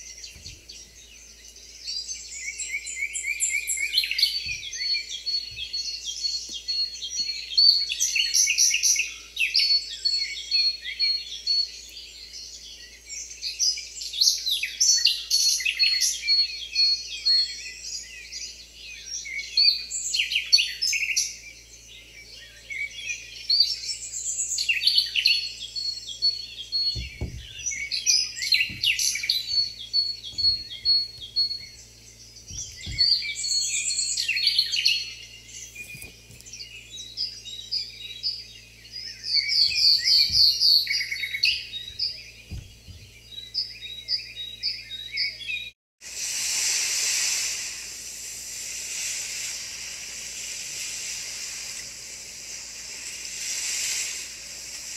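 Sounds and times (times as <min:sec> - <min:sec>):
birds chirping and trilling: 0:00.0 - 0:45.7.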